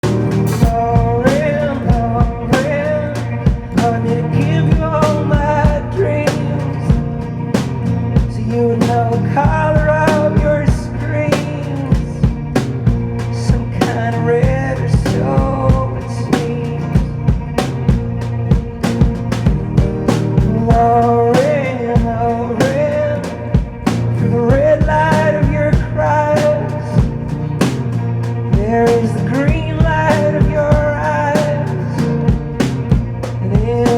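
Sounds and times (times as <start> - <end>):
bass and guitar: 0.0 - 33.9
drum kit beat: 0.0 - 33.9
held melody line: 0.0 - 33.9
person singing: 0.0 - 33.9.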